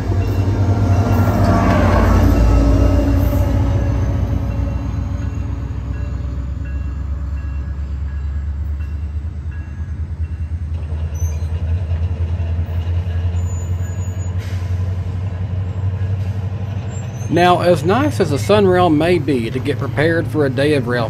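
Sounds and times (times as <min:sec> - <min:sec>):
crossing warning bell dinging: 0:00.0 - 0:11.0, 0:12.8 - 0:14.4, 0:15.3 - 0:21.0
diesel train rumbling: 0:00.0 - 0:21.0.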